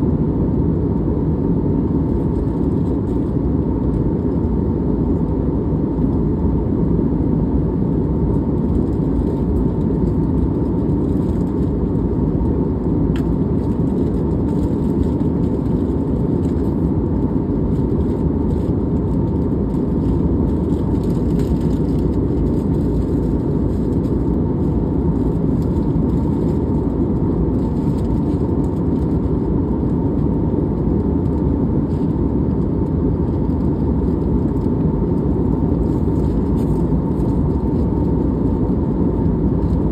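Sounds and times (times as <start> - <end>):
airliner engines and airflow rush: 0.0 - 39.9
faint constant hum: 0.0 - 39.9.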